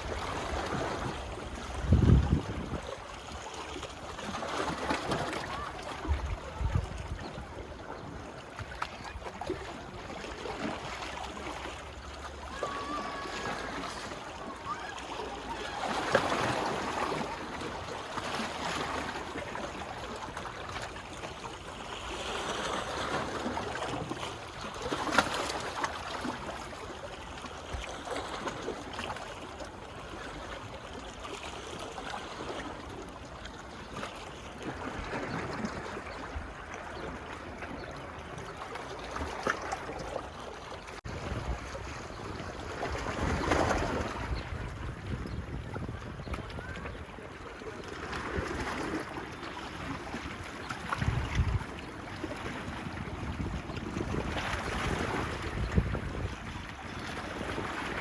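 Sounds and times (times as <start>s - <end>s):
small waves lapping on beach: 0.0s - 58.0s.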